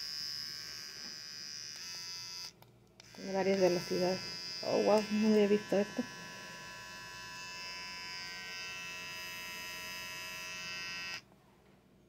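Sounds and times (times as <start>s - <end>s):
beard trimmer buzzing: 0.0s - 11.2s.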